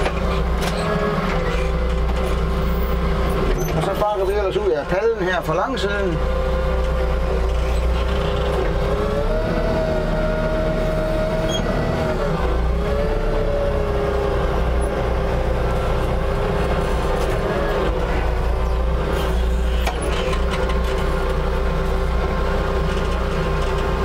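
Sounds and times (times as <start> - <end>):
forklift motor running: 0.0 - 24.0.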